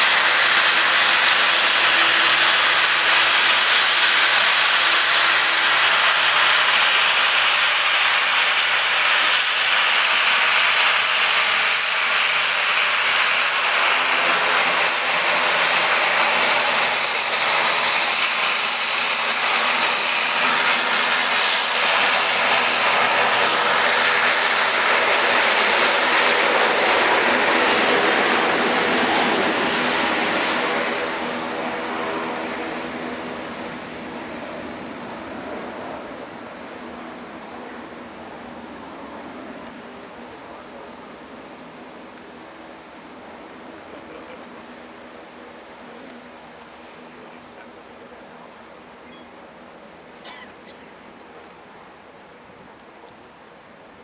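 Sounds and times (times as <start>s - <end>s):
jet engines hissing: 0.0s - 52.1s.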